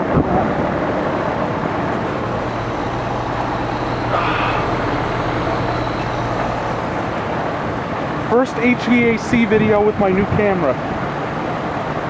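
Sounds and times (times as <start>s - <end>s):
heat pump unit humming and rushing: 0.0s - 12.0s.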